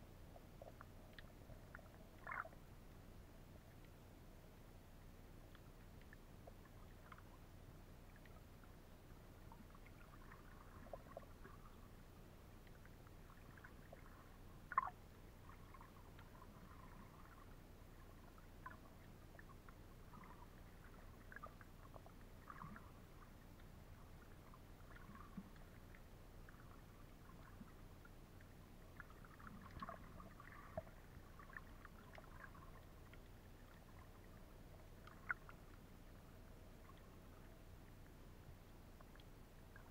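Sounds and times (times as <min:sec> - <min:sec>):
faint underwater clicks and crackles: 0:00.0 - 0:39.9.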